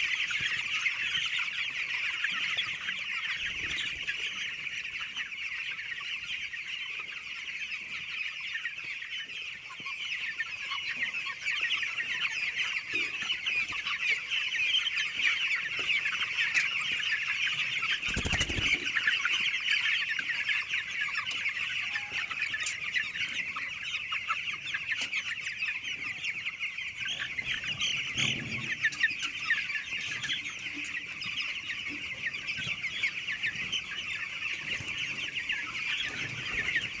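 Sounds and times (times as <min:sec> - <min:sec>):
flock of chickens calling: 0:00.0 - 0:37.0.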